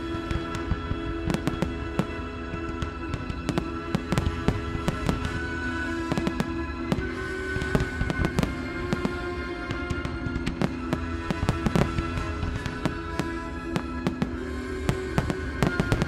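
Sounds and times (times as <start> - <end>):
fireworks bangs and cracks: 0.0 - 16.0
music: 0.0 - 16.0.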